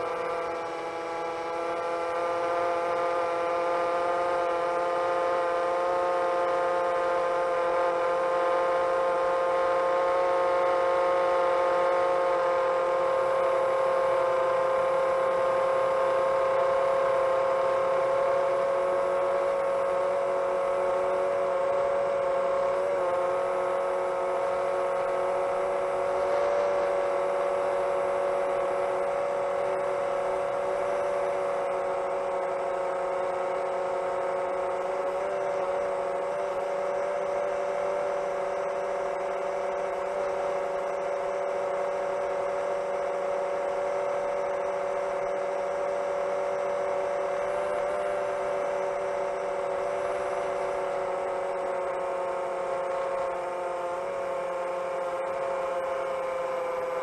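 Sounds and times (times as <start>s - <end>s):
quadcopter propellers whirring: 0.0s - 57.0s.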